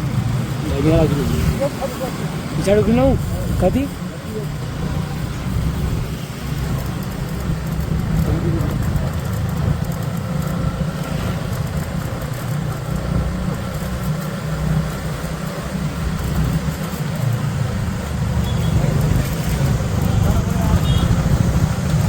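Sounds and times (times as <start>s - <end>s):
motorcycle engine and road noise: 0.0s - 22.0s.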